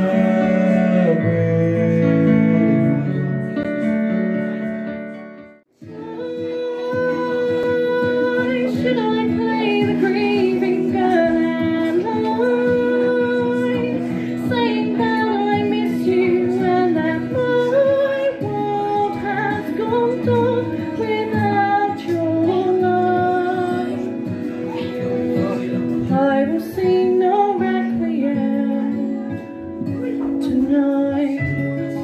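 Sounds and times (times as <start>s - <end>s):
woman singing into a microphone: 0.0s - 3.4s, 5.8s - 32.0s.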